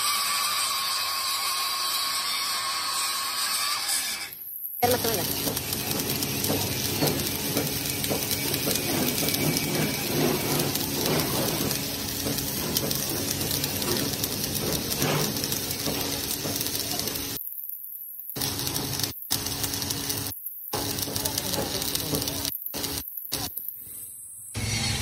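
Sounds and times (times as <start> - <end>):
hissing crackling metalworking: 0.0 - 25.0.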